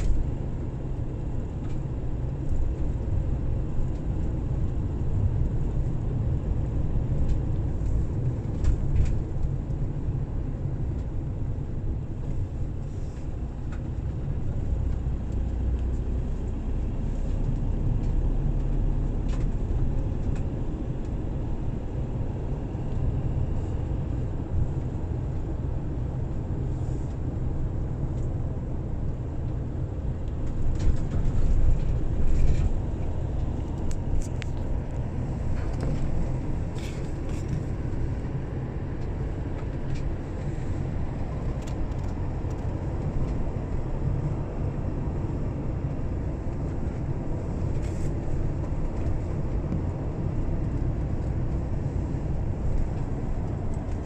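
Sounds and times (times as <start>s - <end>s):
car engine rumble: 0.0s - 54.0s
tyres on asphalt: 0.0s - 54.0s.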